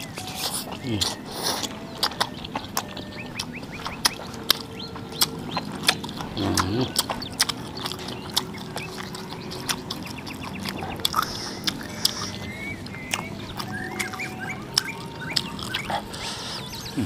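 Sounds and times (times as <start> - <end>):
people chewing and smacking: 0.0 - 17.0.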